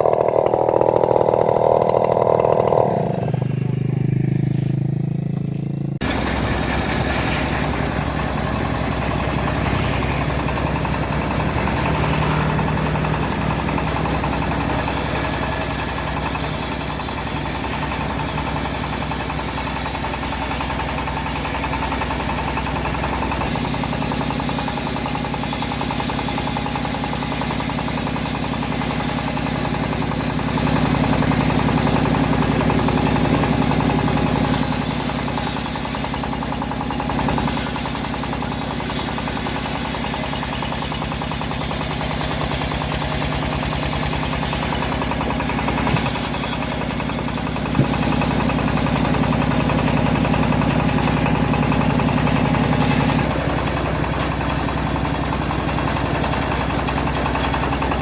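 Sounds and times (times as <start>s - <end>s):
bandsaw sawmill drone: 0.0s - 58.0s.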